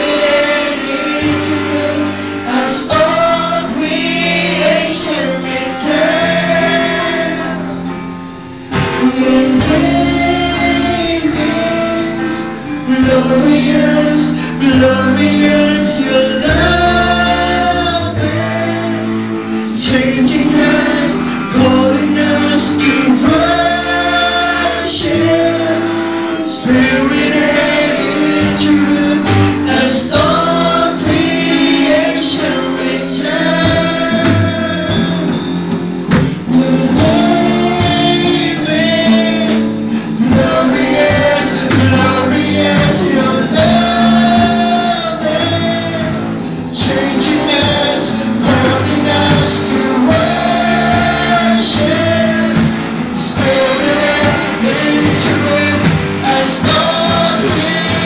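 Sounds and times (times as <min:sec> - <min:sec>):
electric guitar: 0:00.0 - 0:58.0
singers holding long notes: 0:00.0 - 0:58.0.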